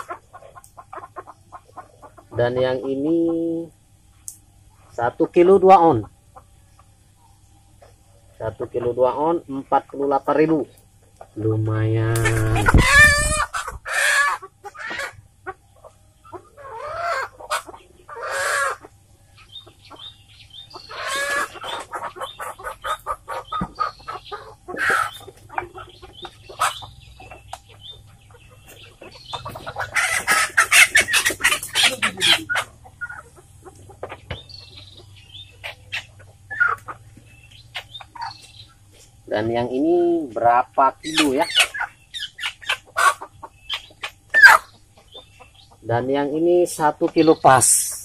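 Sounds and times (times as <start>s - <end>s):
chickens squawking and clucking: 0.0s - 48.0s.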